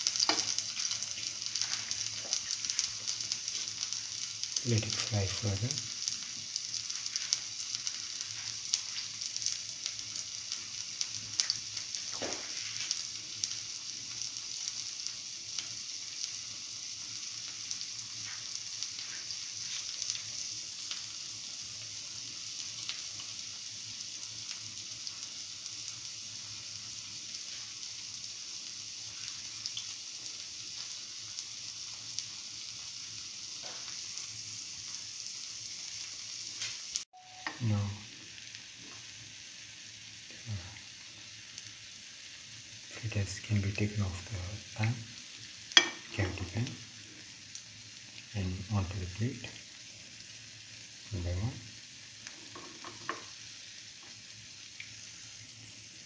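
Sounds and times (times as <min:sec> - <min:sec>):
fritters sizzling in oil: 0:00.0 - 0:56.0.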